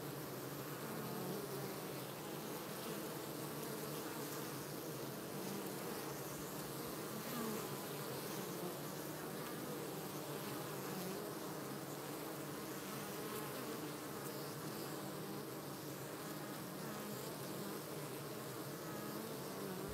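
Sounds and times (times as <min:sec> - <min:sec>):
honey bees buzzing: 0:00.0 - 0:19.9.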